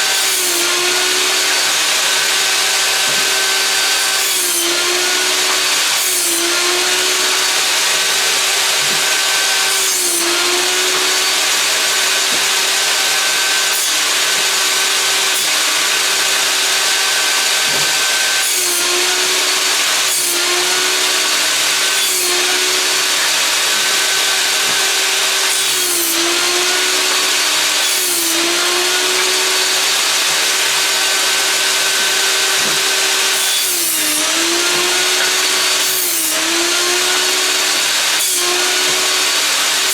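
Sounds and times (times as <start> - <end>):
electric table saw cutting wood: 0.0 - 39.9.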